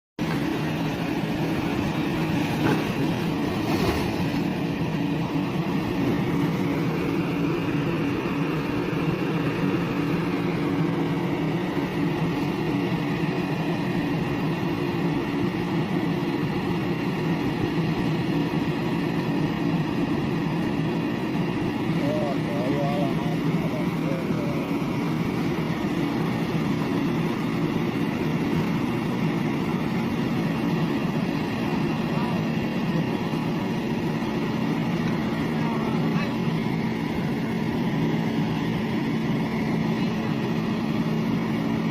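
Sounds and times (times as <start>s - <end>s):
excavator diesel engine droning: 0.2s - 41.9s.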